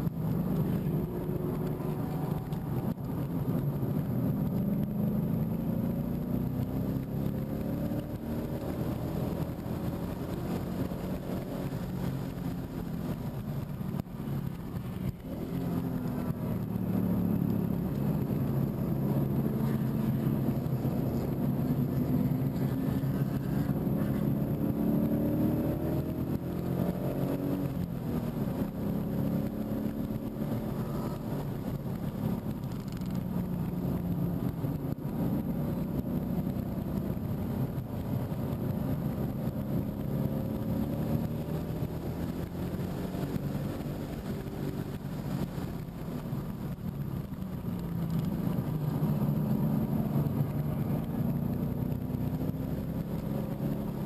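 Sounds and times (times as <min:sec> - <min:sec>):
car engine accelerating from inside: 0:00.0 - 0:54.0.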